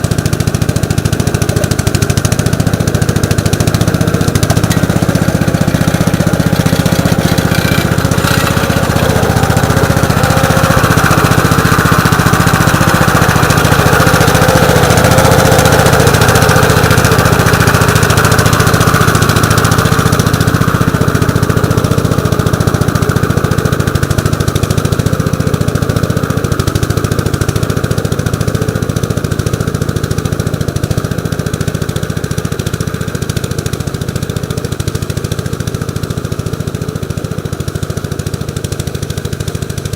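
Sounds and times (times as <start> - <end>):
plow through wet soil: 0.0 - 39.9
tractor engine running: 0.0 - 39.9.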